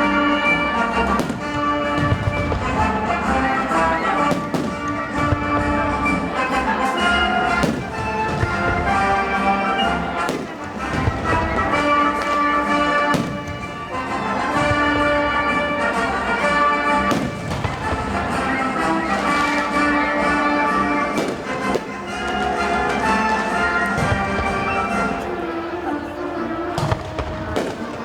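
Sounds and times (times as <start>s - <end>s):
fireworks bangs: 0.0s - 28.0s
music playing: 0.0s - 28.0s.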